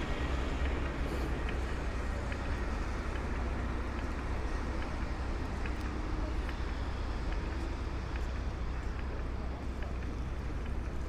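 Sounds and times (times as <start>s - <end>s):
traffic rumble: 0.0s - 11.0s
wind: 0.0s - 11.0s.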